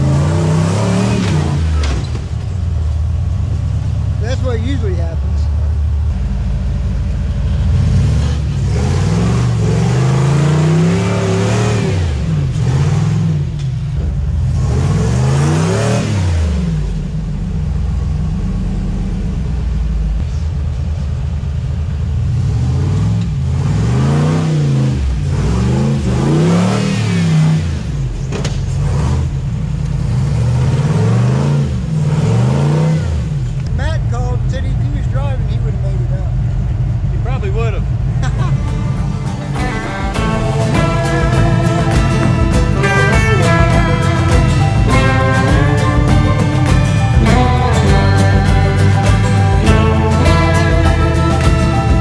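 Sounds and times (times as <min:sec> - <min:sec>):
vehicle engine revving: 0:00.0 - 0:52.0.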